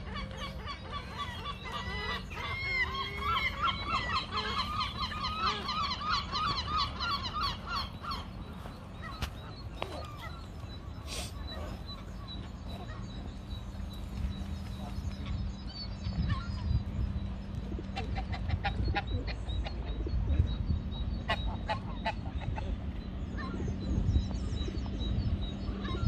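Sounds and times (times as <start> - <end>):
steady low rumble: 0.0 - 26.0
water birds calling: 0.0 - 26.0.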